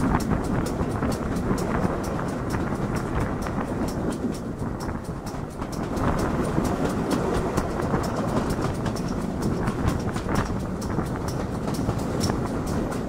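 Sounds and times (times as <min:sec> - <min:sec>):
fast even clicking beat: 0:00.0 - 0:13.0
steam locomotive rushing noise: 0:00.0 - 0:13.0.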